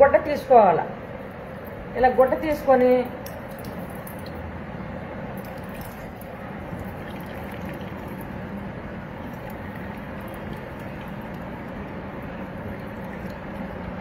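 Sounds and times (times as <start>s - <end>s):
steady background noise: 0.0s - 14.0s
juice trickling into steel bowl: 1.4s - 4.4s, 5.3s - 14.0s.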